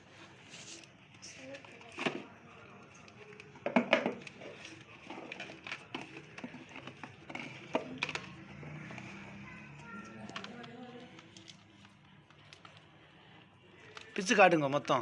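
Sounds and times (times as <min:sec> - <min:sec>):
packaging rustling: 0:00.2 - 0:14.4.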